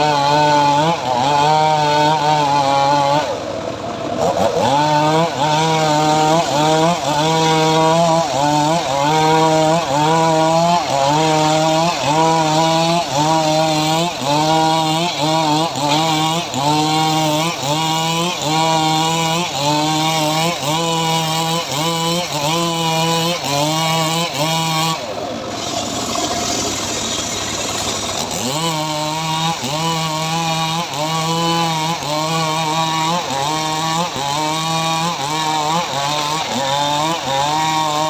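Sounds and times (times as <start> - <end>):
saw engine cutting wood: 0.0 - 38.0.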